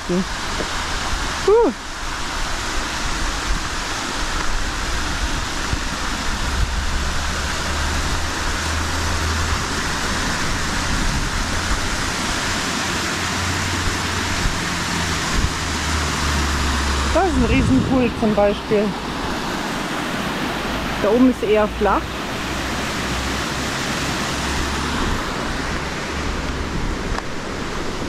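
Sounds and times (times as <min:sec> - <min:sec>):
creek and waterfall rushing: 0:00.0 - 0:28.0.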